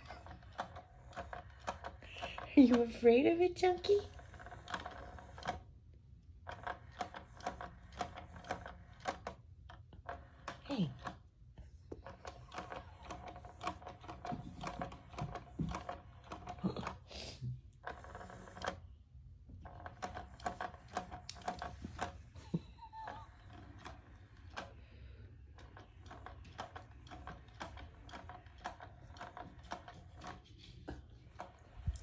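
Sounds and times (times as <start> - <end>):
toy motors whirring: 0.0 - 5.7, 6.4 - 11.2, 12.0 - 18.9, 19.6 - 32.0
plastic clicking and rattling: 0.0 - 17.1, 17.7 - 32.0.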